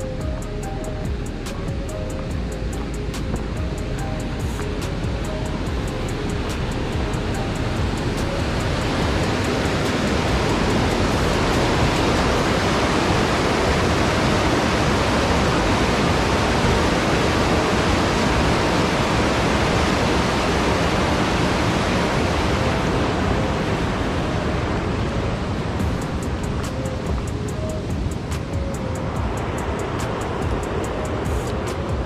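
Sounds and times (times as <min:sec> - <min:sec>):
water rushing over dam spillway: 0:00.6 - 0:32.0.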